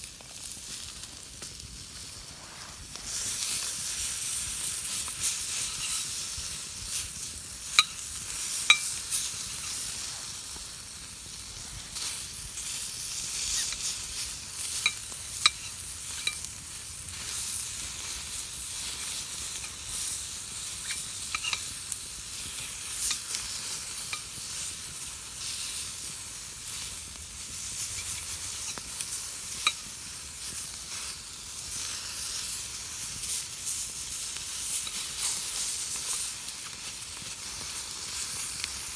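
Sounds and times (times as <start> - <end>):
campfire hissing and crackling: 0.0 - 38.9.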